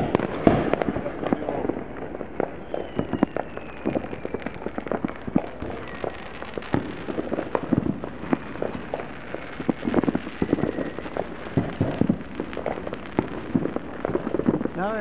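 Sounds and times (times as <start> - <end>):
distant fireworks crackling and banging: 0.0 - 15.0.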